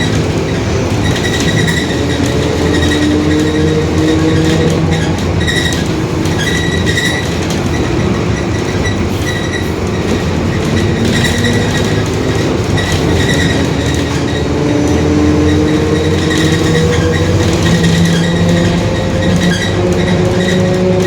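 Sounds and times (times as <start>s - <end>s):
bus diesel engine running: 0.0s - 21.0s
rear differential growling: 0.0s - 21.0s
road noise: 0.0s - 21.0s.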